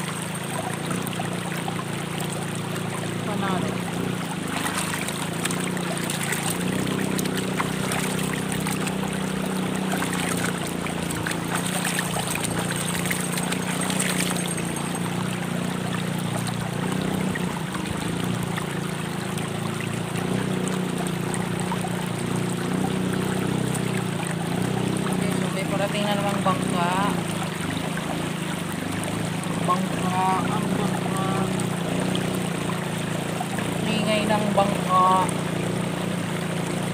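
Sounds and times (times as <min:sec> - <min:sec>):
river water running over stones: 0:00.0 - 0:36.9
water splashing: 0:00.0 - 0:36.9.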